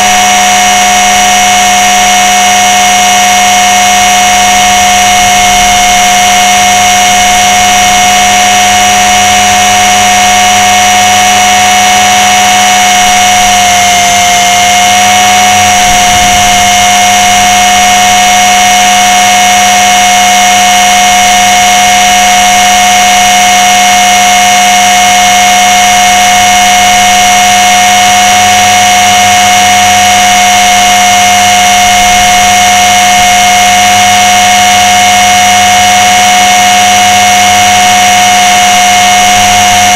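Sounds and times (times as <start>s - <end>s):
rc helicopter motor whining: 0.0s - 39.9s.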